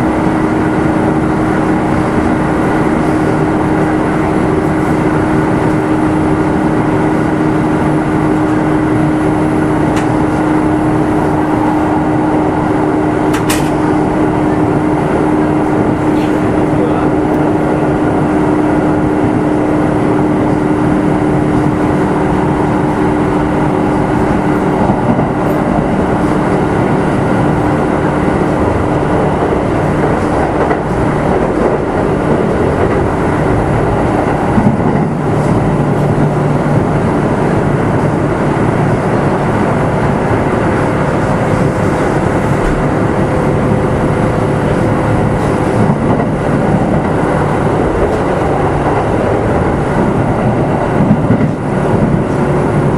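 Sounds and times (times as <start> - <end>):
traction motor humming: 0.0 - 52.9
train wheels rumbling on rail: 0.0 - 52.9.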